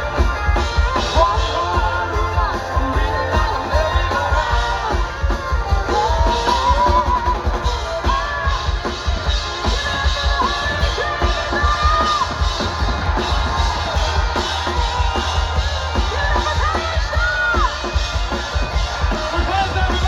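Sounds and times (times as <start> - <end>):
rock song with singer: 0.0 - 20.0.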